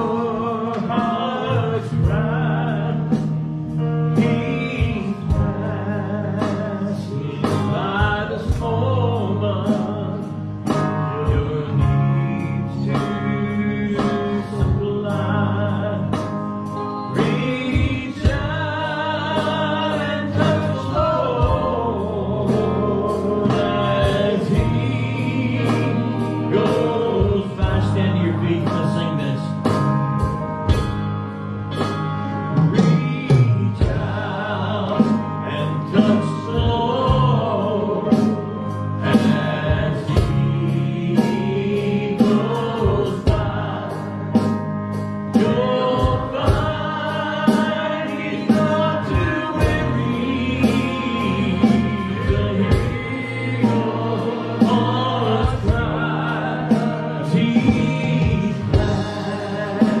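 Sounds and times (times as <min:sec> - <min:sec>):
bass guitar: 0:00.0 - 1:00.0
drum kit beat: 0:00.0 - 1:00.0
electric keyboard: 0:00.0 - 1:00.0
men singing in harmony: 0:00.0 - 1:00.0.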